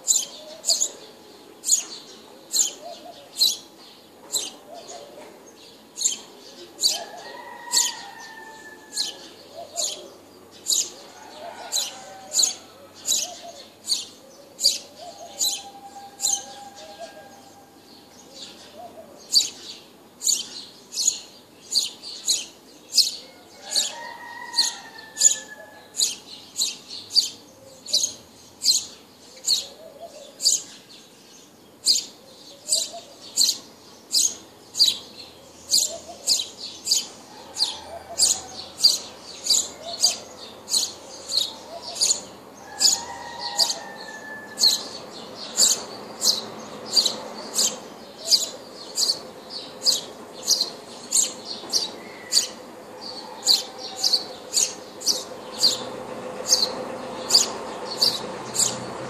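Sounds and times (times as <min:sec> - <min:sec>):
small bird chirping: 0:00.0 - 0:07.2, 0:07.8 - 0:11.0, 0:11.6 - 0:17.1, 0:18.4 - 0:30.9, 0:31.8 - 0:52.6, 0:53.4 - 0:59.0.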